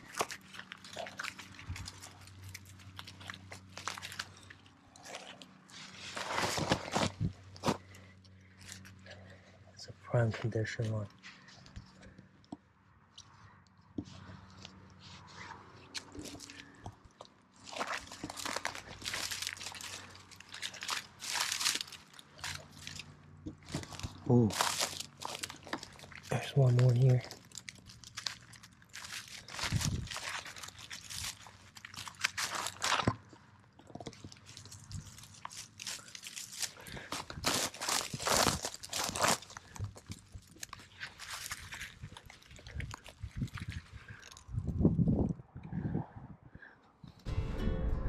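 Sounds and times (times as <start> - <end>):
pine needles and twigs crackling: 0.0 - 44.6.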